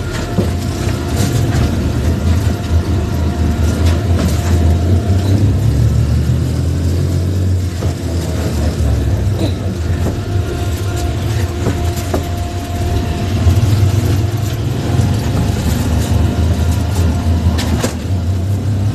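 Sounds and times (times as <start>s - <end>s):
vehicle engine and road rumble: 0.0s - 18.9s.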